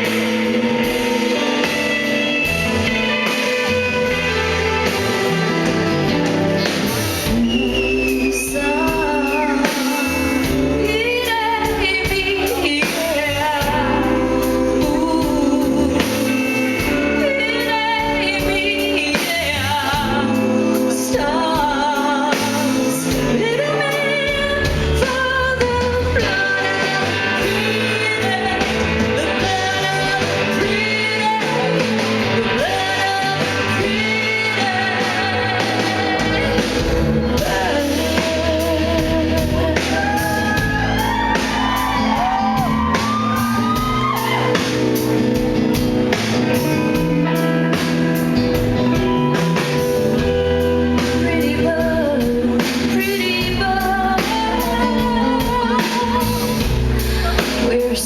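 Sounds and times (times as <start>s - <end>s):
live band with singing: 0.0s - 58.0s.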